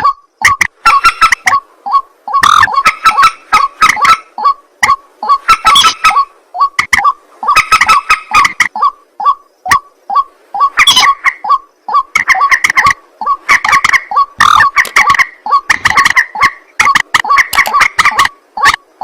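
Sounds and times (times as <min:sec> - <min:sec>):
waterhen harsh croaking calls: 0:00.0 - 0:19.0.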